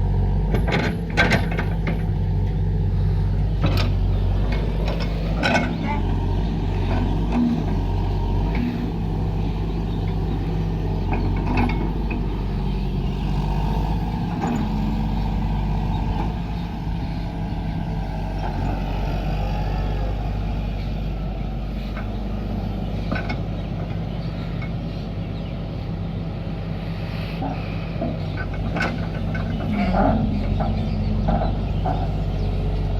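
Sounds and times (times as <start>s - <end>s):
excavator engine running: 0.0s - 32.9s.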